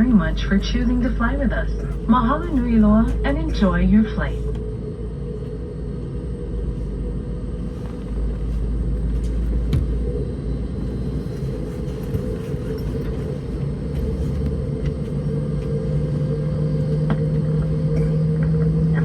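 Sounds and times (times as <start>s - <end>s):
aircraft cabin rumble: 0.0s - 19.0s
mid-pitched hum: 0.0s - 19.0s.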